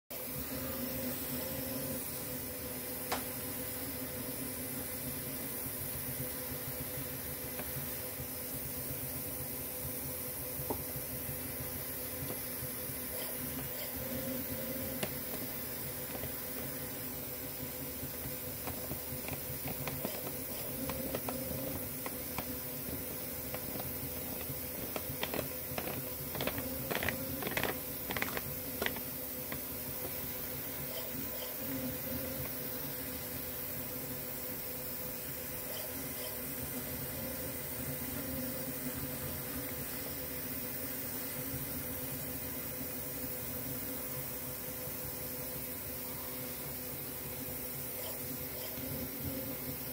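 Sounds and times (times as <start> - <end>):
cooling fans hissing: 0.1 - 49.9
stepper motors humming: 0.2 - 49.9.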